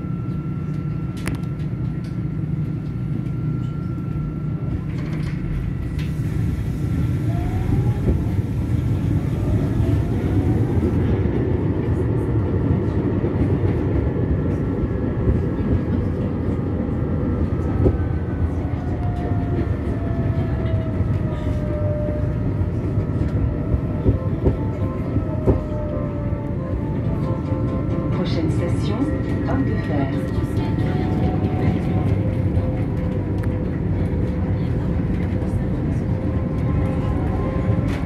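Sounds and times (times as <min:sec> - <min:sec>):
tram wheels rumbling on rail: 0:00.0 - 0:38.0.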